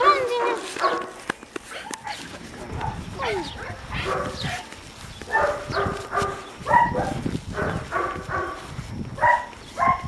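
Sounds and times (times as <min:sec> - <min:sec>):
puppy barking: 0:00.0 - 0:02.2, 0:02.8 - 0:04.7, 0:05.3 - 0:10.0.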